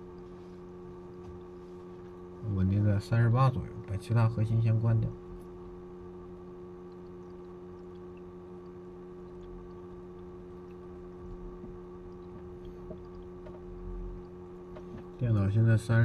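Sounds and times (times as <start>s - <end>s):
water pump humming: 0.0s - 16.0s.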